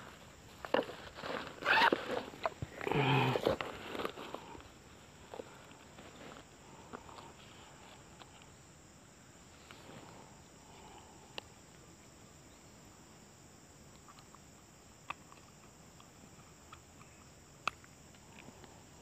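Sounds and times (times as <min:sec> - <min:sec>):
faint insect drone: 0:00.0 - 0:19.0.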